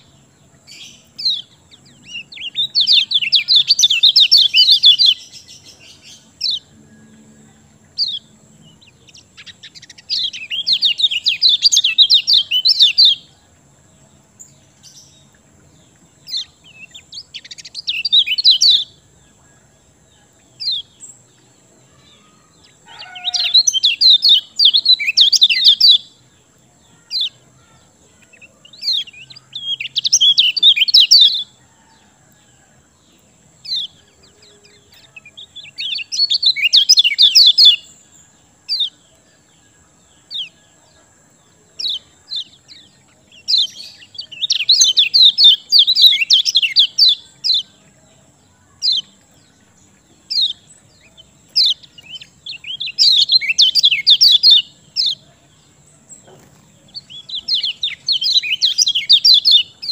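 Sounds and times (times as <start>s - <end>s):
songbird chirping rapidly: 0.0s - 59.9s.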